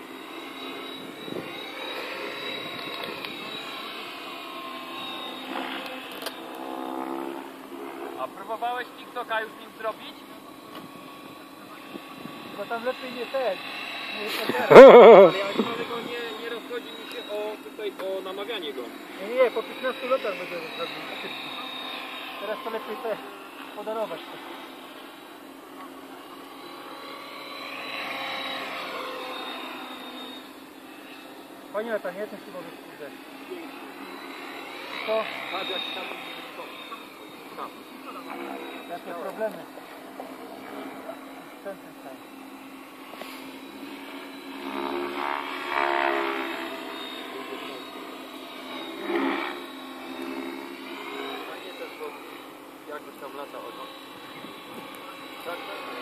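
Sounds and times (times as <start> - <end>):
rc helicopter whine flying past: 0.0 - 56.0.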